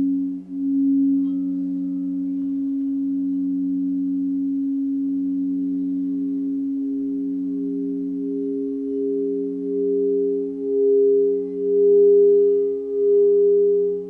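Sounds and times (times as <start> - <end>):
low sustained drone tones: 0.0 - 14.0.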